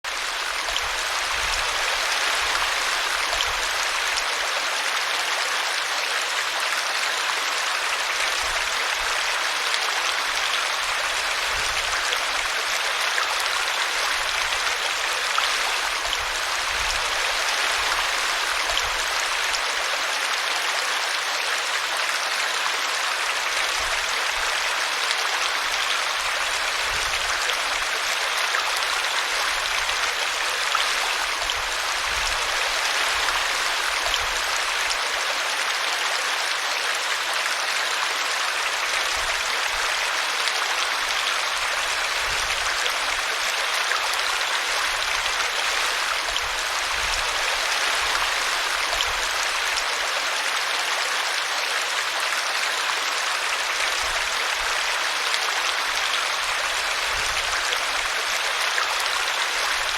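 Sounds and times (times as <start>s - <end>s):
brook babbling: 0.0s - 59.9s.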